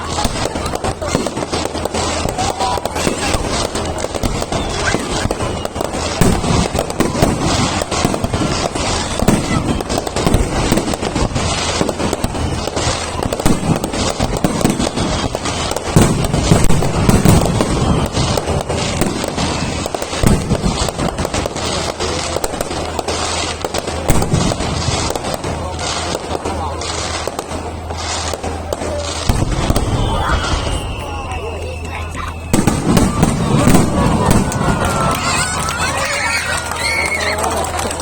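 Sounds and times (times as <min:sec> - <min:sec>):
fireworks booms: 0:00.0 - 0:38.0
fireworks bursting and crackling: 0:00.0 - 0:38.0.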